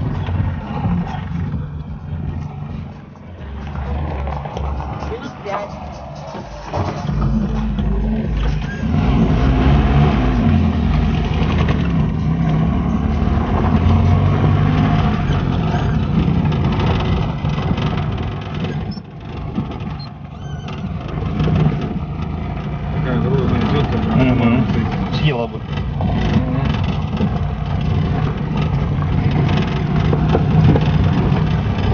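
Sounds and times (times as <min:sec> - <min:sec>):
car engine and road rumble: 0:00.0 - 0:31.9.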